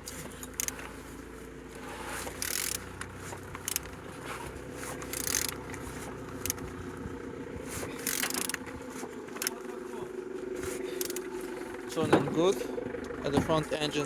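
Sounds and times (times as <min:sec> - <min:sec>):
steady low hum: 0:00.0 - 0:14.0
hissing scrapes of engine turning: 0:00.2 - 0:06.5, 0:07.5 - 0:13.1.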